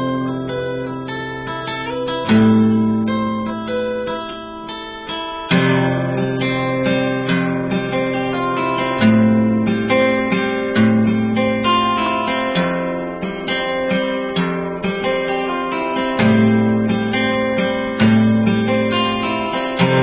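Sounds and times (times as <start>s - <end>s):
background music with plucked notes: 0.0s - 20.0s.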